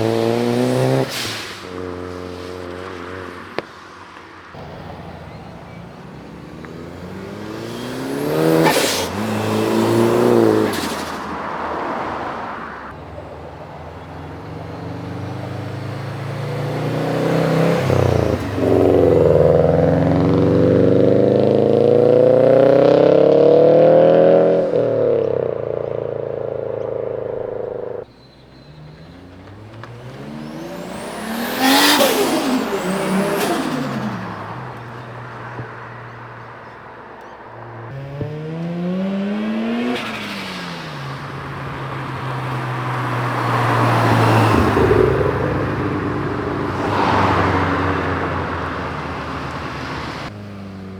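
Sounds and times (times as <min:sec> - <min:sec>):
car passing close by: 0:00.0 - 0:28.1, 0:28.7 - 0:50.8
cars accelerating hard: 0:00.0 - 0:50.9.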